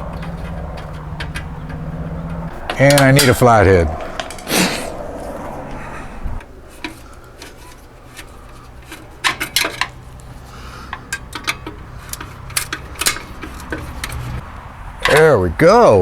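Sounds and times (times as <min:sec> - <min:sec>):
metal tools clinking: 0:00.0 - 0:14.4.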